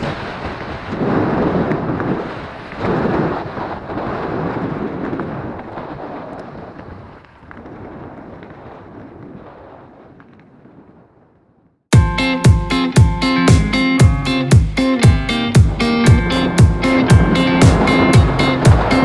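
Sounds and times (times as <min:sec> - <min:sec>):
wind buffeting microphone: 0:00.0 - 0:11.6, 0:15.3 - 0:19.0.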